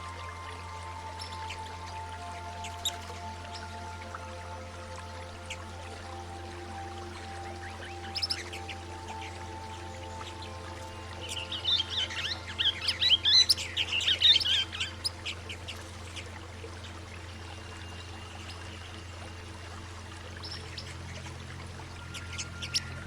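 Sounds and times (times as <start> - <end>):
low musical drone: 0.0 - 23.0.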